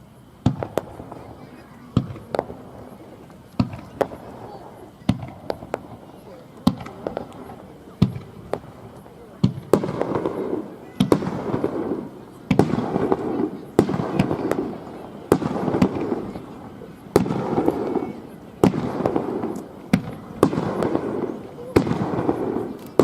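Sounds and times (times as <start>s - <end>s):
fireworks bursting bangs: 0.0s - 23.0s.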